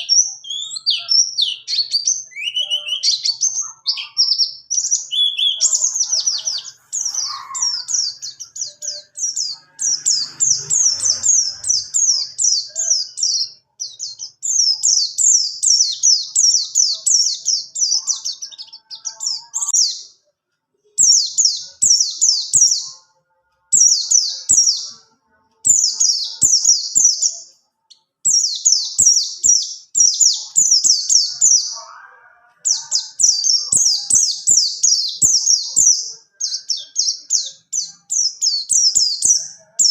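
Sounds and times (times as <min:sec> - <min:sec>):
bird singing rolling song: 0:00.0 - 0:20.2, 0:21.0 - 0:39.9.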